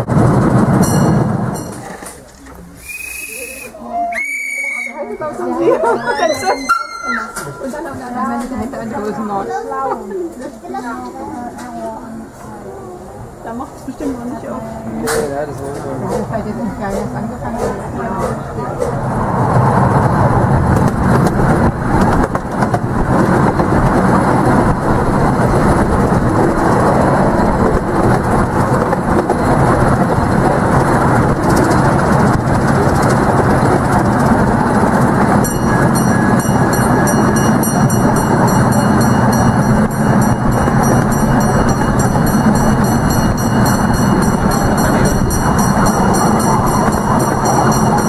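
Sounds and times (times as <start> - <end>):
steel wheels rolling on rails: 0.0 - 48.0.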